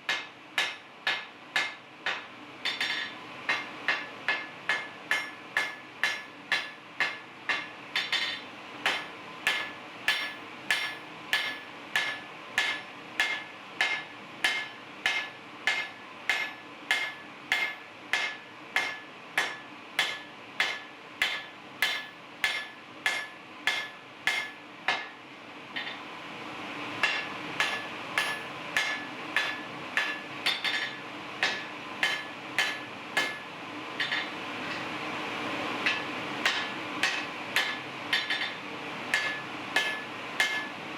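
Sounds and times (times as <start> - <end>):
hammer striking steel on anvil: 0.0 - 25.2, 27.0 - 34.9, 35.8 - 40.8.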